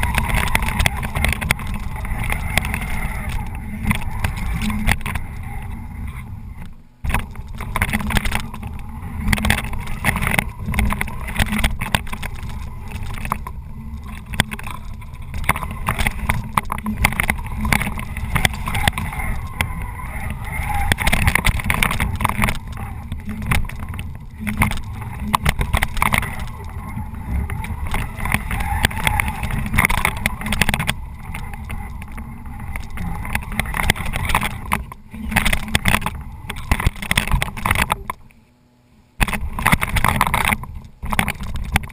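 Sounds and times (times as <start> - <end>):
toy truck electric motors whining: 0.0 - 37.7.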